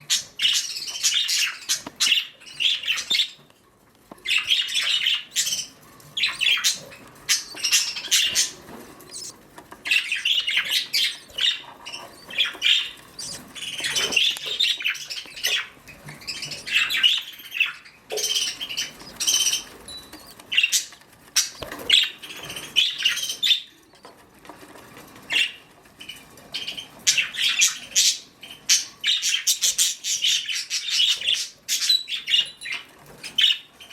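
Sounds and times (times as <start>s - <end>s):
budgerigars chirping and chattering: 0.0s - 3.5s, 4.2s - 24.6s, 25.2s - 33.9s.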